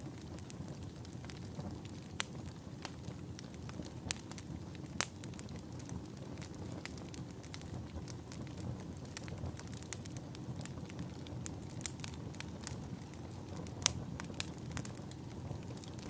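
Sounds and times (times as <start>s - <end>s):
fire crackling and popping: 0.0s - 16.0s
wood fire hissing: 0.0s - 16.0s.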